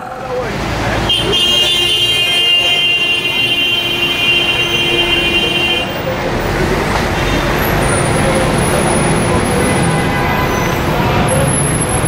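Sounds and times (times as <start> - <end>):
cars and trucks passing: 0.0 - 12.0.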